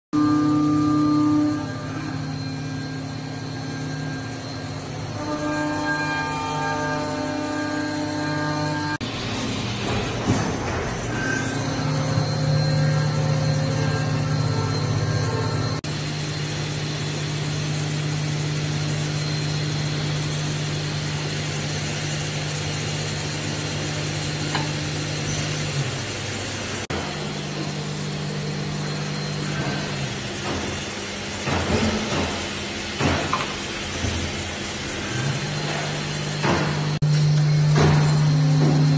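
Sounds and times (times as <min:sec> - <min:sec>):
machining centre hum and hiss: 0:00.2 - 0:38.9.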